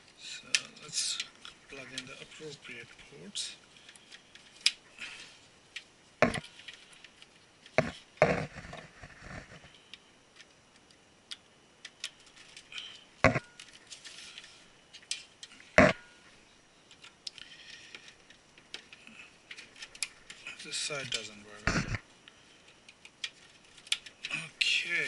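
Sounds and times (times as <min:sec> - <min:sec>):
light handling rustle: 0:00.0 - 0:25.0.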